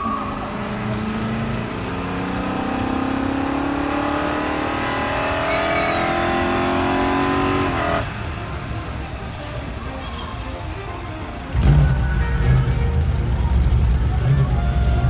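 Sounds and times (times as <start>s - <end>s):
vehicle engine revving up: 0.0s - 9.1s, 11.5s - 15.0s.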